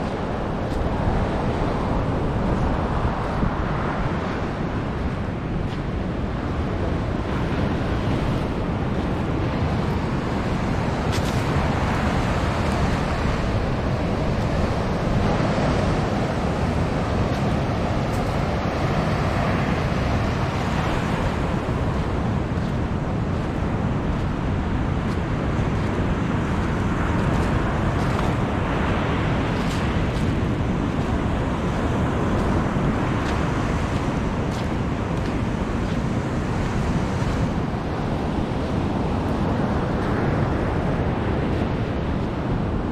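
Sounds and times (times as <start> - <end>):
waves breaking on a beach: 0.0 - 42.9
wind buffeting the microphone: 0.0 - 42.9.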